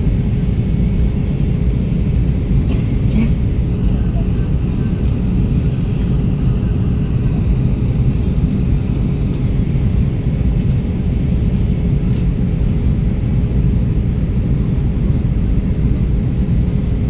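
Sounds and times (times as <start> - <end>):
airflow and jet engine rumble: 0.0 - 17.0
droning hum: 0.0 - 17.0.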